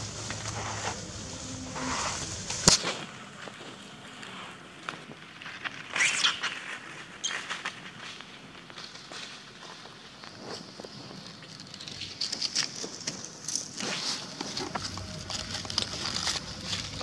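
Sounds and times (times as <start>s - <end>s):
dry leaves rustling and crackling: 0.0s - 17.0s.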